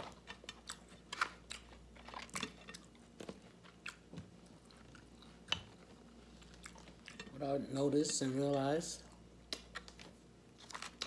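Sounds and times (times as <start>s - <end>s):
person chewing food: 0.0s - 7.4s, 9.0s - 11.0s.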